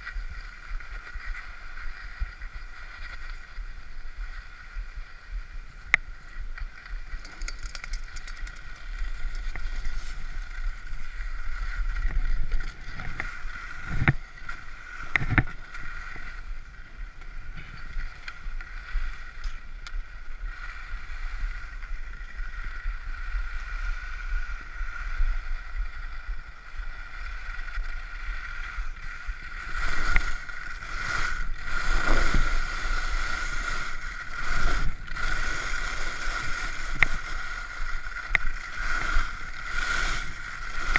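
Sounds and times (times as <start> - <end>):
skis scraping over snow: 0.0 - 40.9
wind rushing over camera: 0.0 - 40.9.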